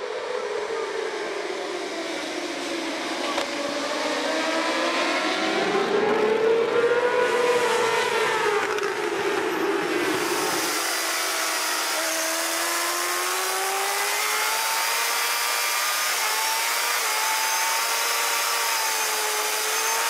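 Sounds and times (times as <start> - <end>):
racing motorcycles revving high: 2.4 - 9.1, 9.8 - 20.0.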